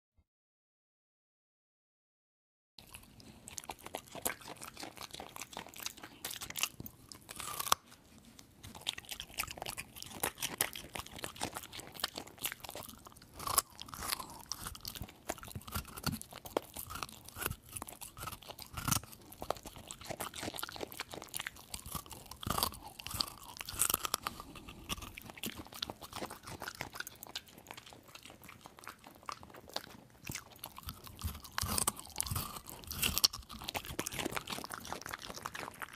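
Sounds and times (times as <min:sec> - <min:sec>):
dog crunching food: 0:02.8 - 0:35.9.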